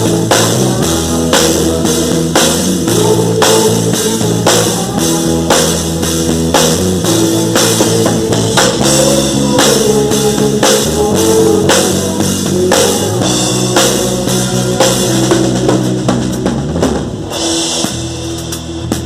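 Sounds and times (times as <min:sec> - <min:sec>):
drum kit hits: 0:00.0 - 0:19.0
sustained bass and chords: 0:00.0 - 0:19.0.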